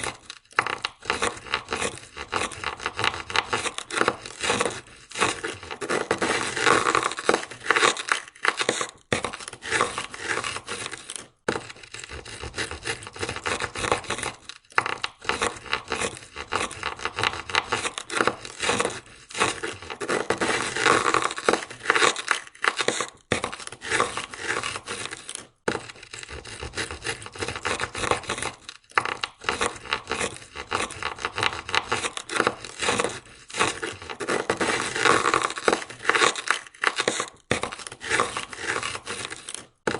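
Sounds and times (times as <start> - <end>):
ice scraper scraping window: 0.0 - 39.9.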